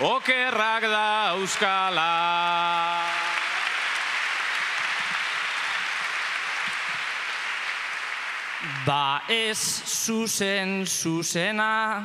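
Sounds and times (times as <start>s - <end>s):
audience applause: 0.0s - 10.4s.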